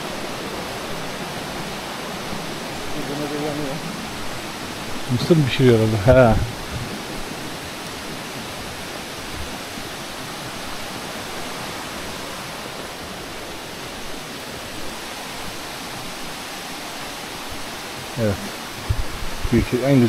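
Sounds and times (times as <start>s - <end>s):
waterfall and stream rushing: 0.0s - 20.0s.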